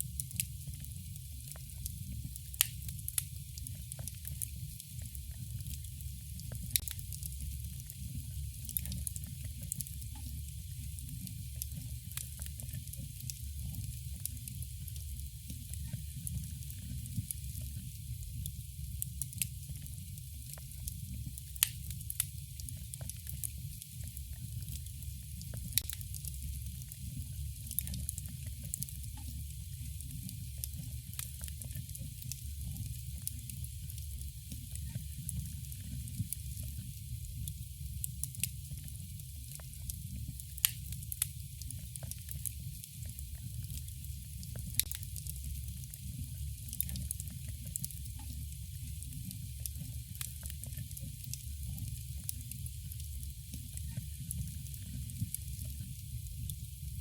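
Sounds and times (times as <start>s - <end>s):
campfire burning: 0.0s - 57.0s.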